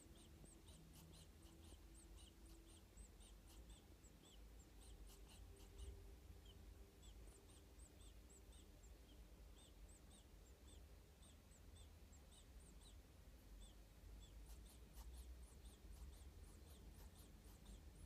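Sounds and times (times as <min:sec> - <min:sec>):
tortoise squeaky peeps: 0:00.0 - 0:18.0.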